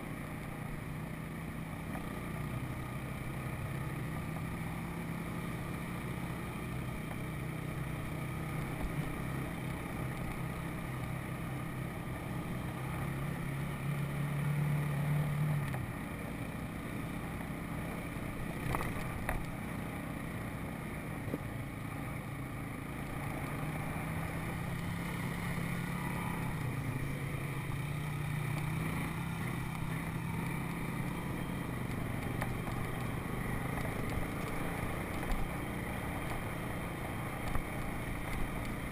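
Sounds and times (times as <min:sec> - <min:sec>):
atv engine revving: 0:01.5 - 0:38.9.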